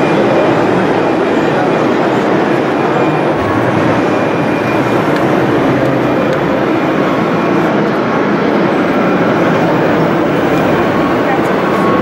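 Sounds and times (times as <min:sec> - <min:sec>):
murmur of many visitors: 0:00.0 - 0:12.0.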